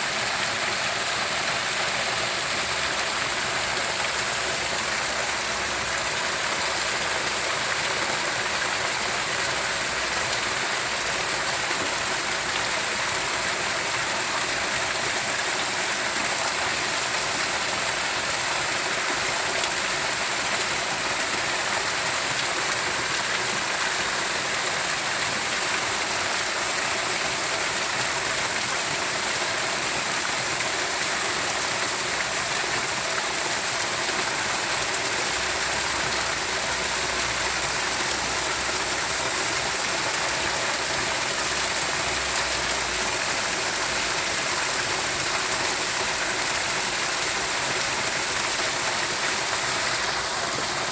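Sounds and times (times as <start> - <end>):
running water rushing: 0.0 - 50.9.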